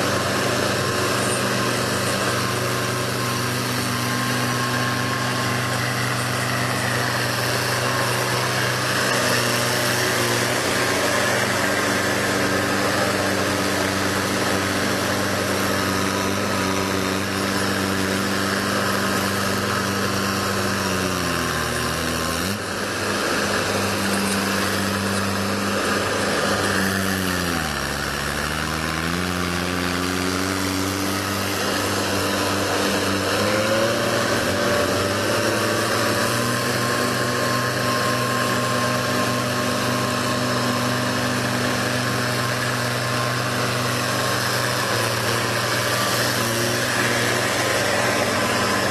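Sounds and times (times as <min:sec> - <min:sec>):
heavy machine engine running: 0:00.0 - 0:48.9.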